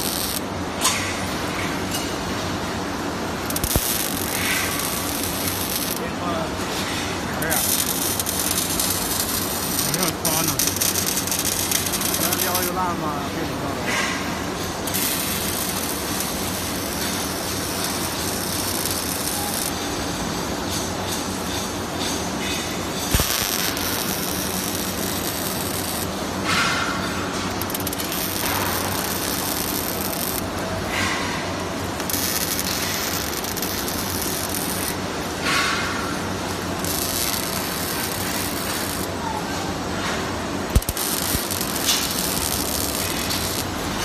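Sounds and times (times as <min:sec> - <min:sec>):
low machine hum: 0:00.0 - 0:44.0
welding arc crackling hiss: 0:00.0 - 0:44.0.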